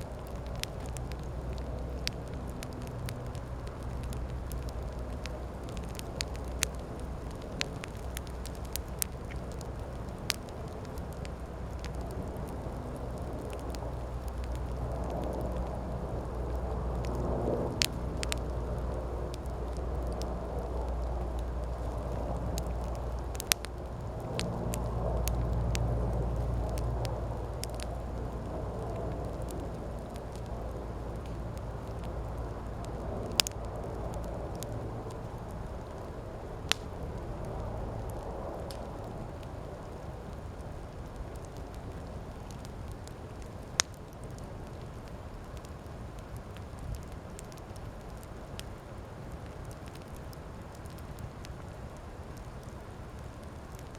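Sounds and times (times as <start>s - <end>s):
campfire flames burning: 0.0s - 53.9s
fire crackling and popping: 0.0s - 53.9s.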